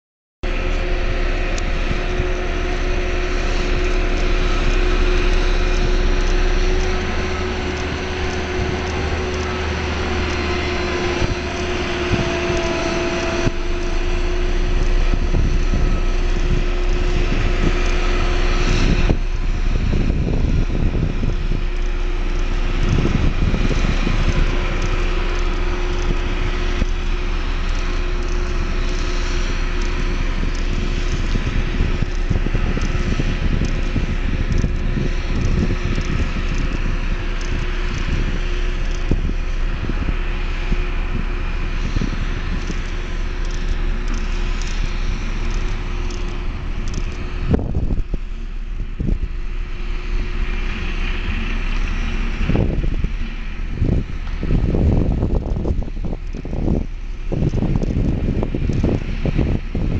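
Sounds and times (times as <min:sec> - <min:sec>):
engine humming: 0:00.4 - 0:59.9
wind on microphone: 0:00.4 - 0:59.9.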